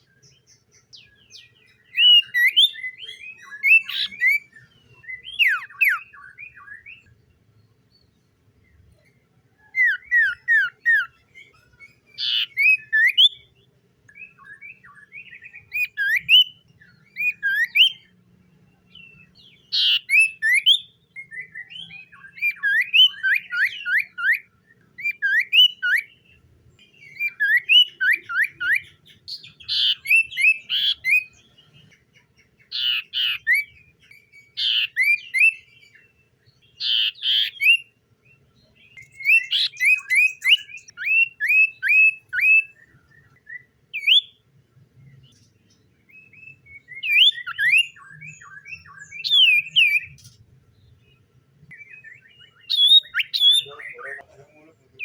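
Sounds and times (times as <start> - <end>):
bird singing rising whistled notes: 0.0 - 54.2.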